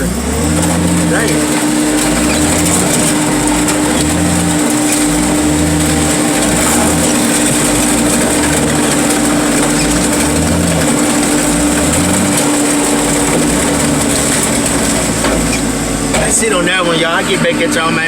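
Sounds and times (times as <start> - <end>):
engine low throb: 0.0 - 18.0
hydraulic machine whine: 0.0 - 18.0.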